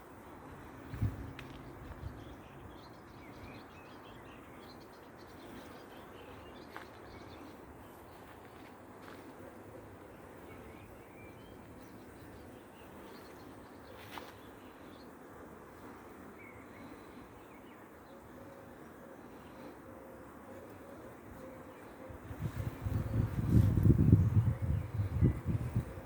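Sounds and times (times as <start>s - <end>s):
bees buzzing faintly: 0.0s - 26.0s
small birds chirping: 1.0s - 26.0s.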